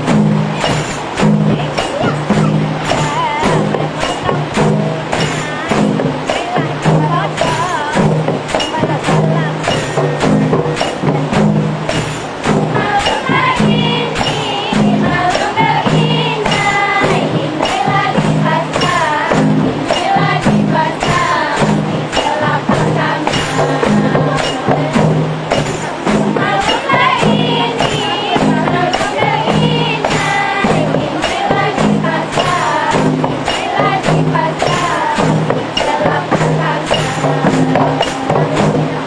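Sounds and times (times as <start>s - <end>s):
frame drums beating: 0.0s - 39.0s
group of voices singing: 0.0s - 39.0s.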